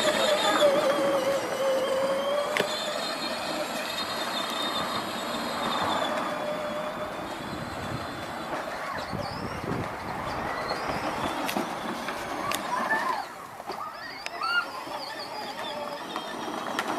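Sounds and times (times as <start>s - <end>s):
toy car electric motor whining: 0.0s - 16.9s.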